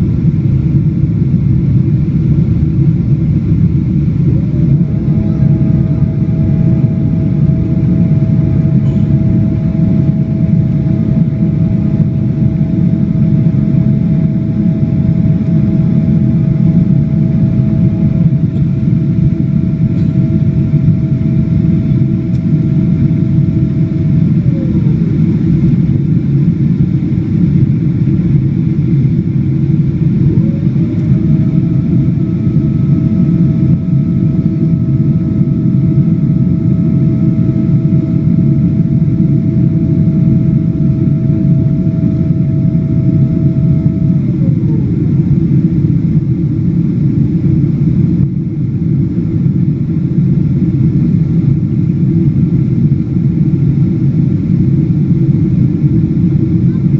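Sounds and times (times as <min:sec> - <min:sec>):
jet engine rumble: 0:00.0 - 0:56.9
jet engine whine: 0:00.0 - 0:56.9.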